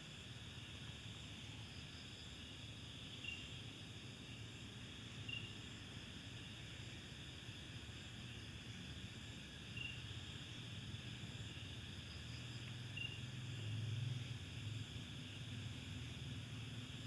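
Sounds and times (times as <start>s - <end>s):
crickets and insects buzzing: 0.0s - 17.0s.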